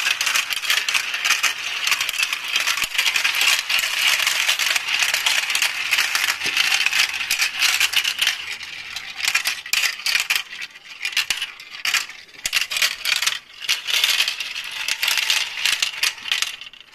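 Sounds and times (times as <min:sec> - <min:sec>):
marbles rattling down a marble run: 0:00.0 - 0:16.9.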